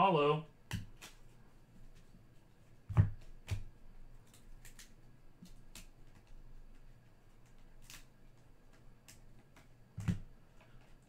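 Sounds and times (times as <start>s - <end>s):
faint clicks of card edges: 0.6s - 11.0s.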